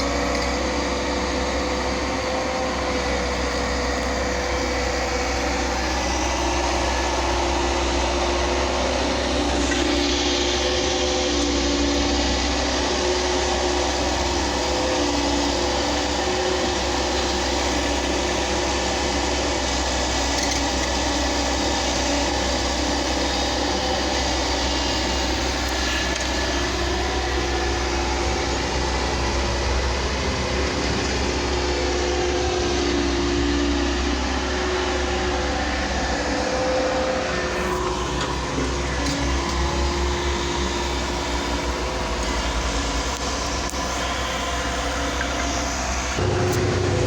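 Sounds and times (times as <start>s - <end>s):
excavator engine running: 0.0s - 47.0s.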